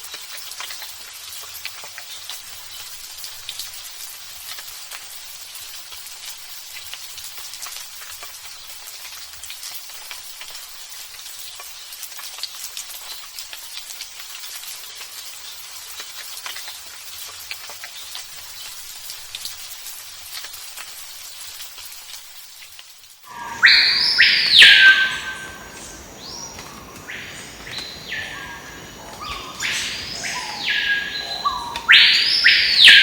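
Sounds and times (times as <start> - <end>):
rain pattering: 0.0 - 33.0.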